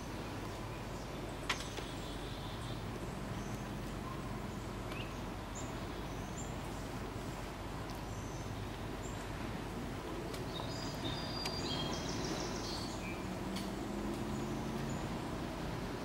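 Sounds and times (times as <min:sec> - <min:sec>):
small birds chirping: 0:00.0 - 0:15.6
steady background hiss: 0:00.0 - 0:16.0.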